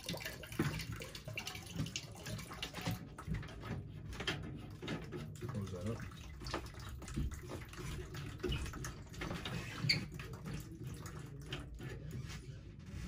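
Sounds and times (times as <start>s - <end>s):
small splashes: 0.0s - 12.2s
water dripping into plastic bucket: 0.0s - 12.2s.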